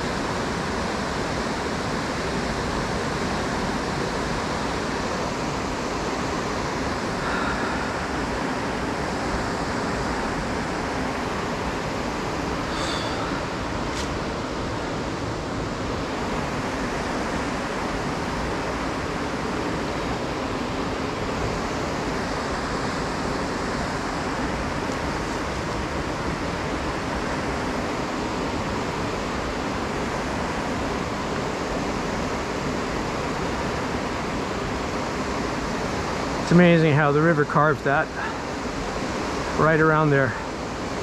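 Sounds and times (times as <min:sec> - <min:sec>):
whitewater rushing: 0:00.0 - 0:41.0.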